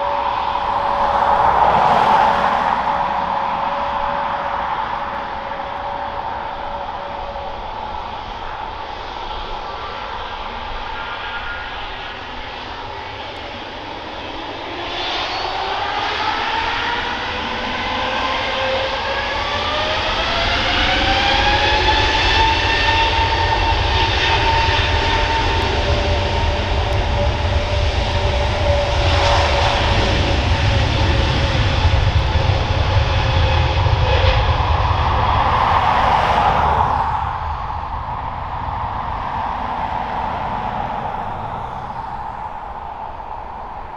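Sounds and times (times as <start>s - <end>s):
deep engine rumble: 0.0s - 43.9s
jet engines spooling up: 0.0s - 43.9s.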